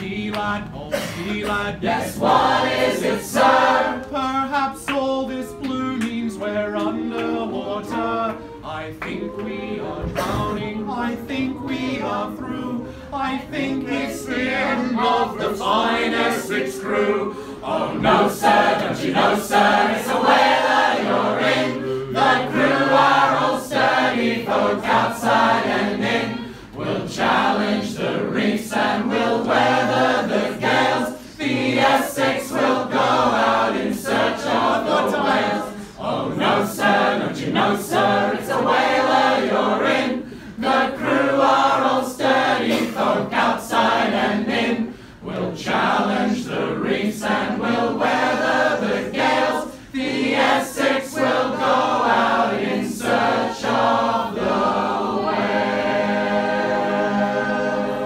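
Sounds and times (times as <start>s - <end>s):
group singing unaccompanied: 0.0s - 58.0s.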